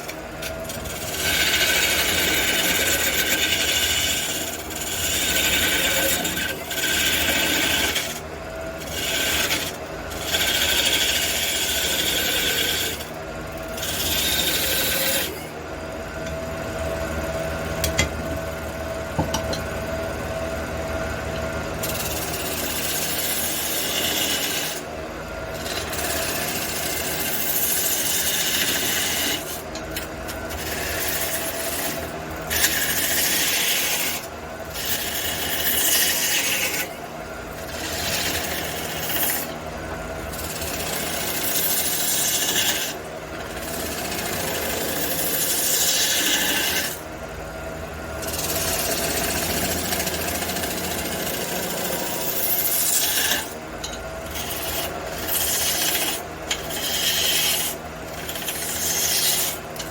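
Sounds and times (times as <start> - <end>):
tool rasping on spinning wood: 0.0 - 15.5, 21.8 - 24.9, 25.5 - 39.6, 40.2 - 47.1, 48.2 - 59.9
lathe motor hum: 0.0 - 59.9.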